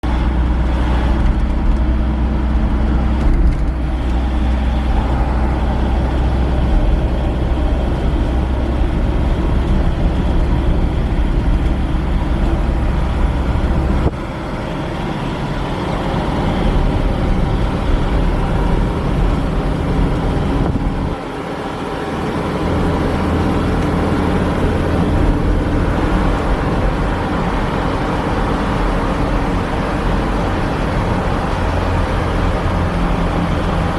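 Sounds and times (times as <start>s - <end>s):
engine and road rumble in car: 0.0s - 33.9s.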